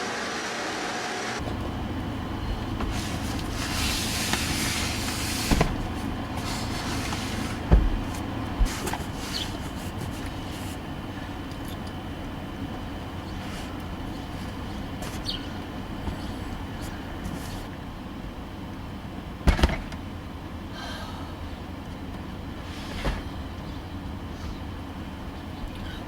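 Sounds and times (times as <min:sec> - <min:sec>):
vehicle in motion rumble: 0:01.3 - 0:26.0.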